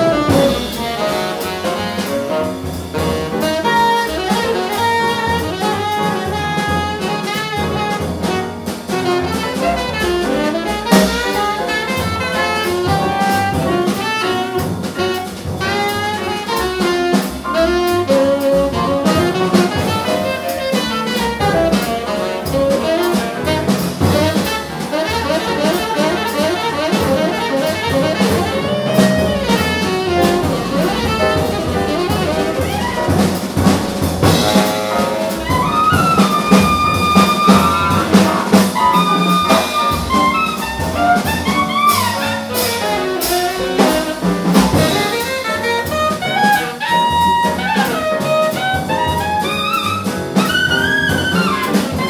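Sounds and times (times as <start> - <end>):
drum kit: 0.0 - 52.0
piano: 0.0 - 52.0
saxophone soloing: 0.0 - 52.0
upright bass: 0.0 - 52.0.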